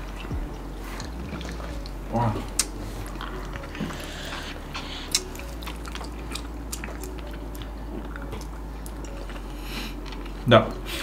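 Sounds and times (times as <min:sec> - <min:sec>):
chewing gummy candies: 0:00.0 - 0:10.9.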